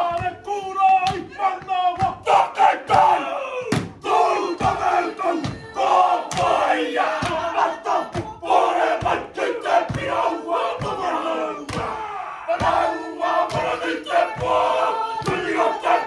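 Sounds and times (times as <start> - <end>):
men shouting chant in unison: 0.0 - 16.0
rhythmic slaps: 0.0 - 16.0.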